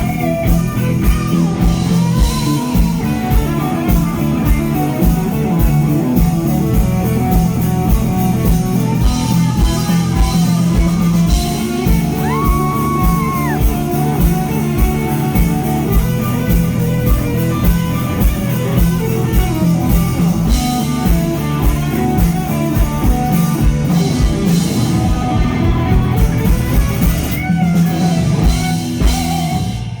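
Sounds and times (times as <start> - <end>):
bass guitar: 0.0 - 30.0
electric guitar: 0.0 - 30.0
steady drum beat: 0.0 - 30.0.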